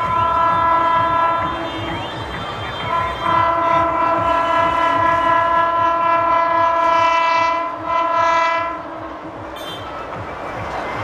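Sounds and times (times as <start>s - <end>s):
locomotive horn blast: 0.0s - 9.9s
train rumble: 0.0s - 11.0s.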